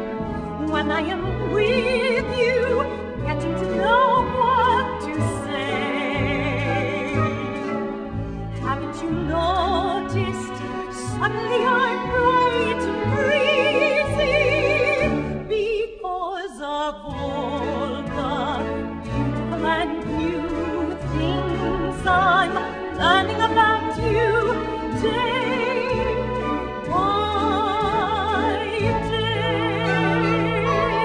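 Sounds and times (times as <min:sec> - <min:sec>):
orchestral show tune: 0:00.0 - 0:16.0, 0:17.0 - 0:31.0.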